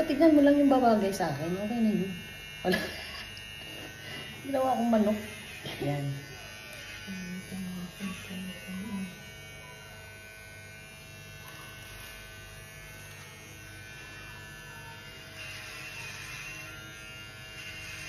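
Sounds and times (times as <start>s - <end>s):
electric hair clippers buzzing: 0.0s - 18.0s.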